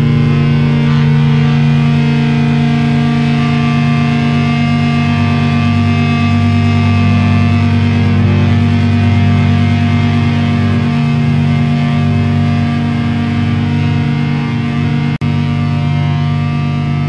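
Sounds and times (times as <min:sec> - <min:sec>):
distorted electric guitars chord: 0:00.0 - 0:17.0.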